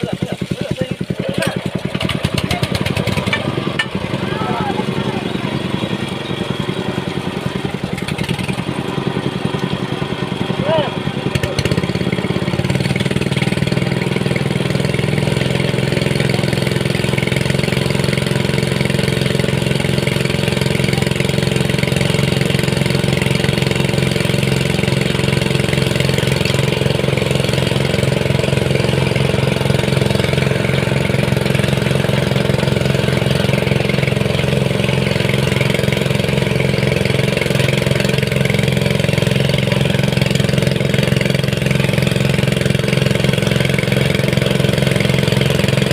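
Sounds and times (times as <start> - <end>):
small engine running: 0.0 - 45.9.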